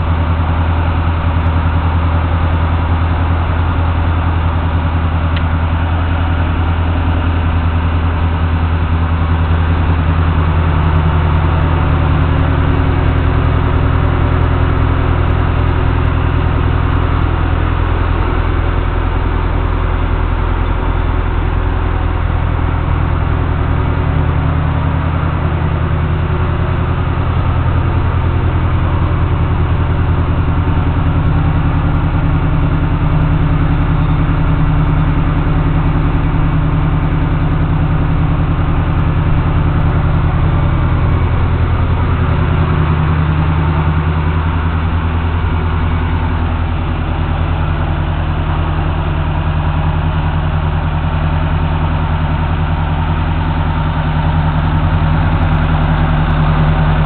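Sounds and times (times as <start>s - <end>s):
pickup truck engine idling: 0.0s - 57.0s.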